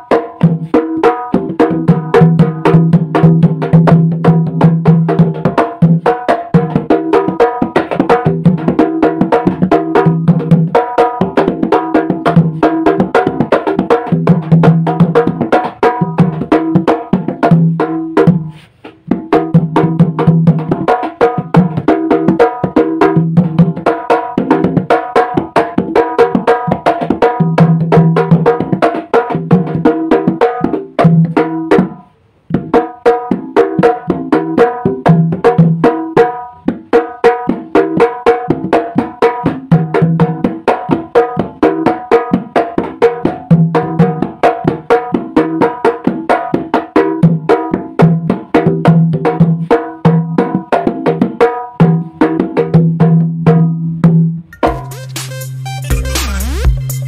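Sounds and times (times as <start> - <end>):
hand drum fast rhythm: 0.0 - 57.0.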